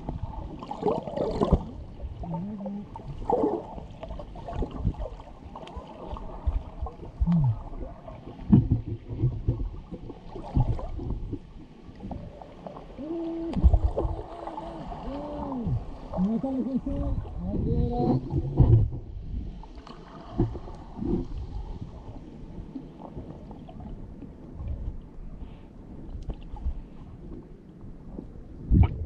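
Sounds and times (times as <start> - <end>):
underwater knocks and gurgles: 0.0 - 25.3, 26.0 - 29.0.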